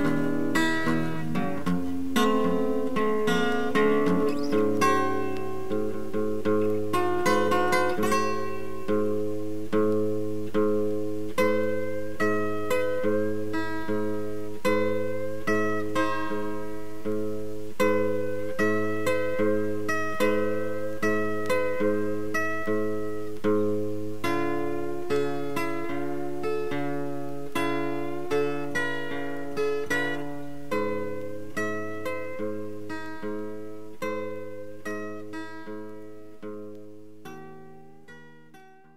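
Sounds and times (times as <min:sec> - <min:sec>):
plucked acoustic guitar chords: 0:00.0 - 0:38.9.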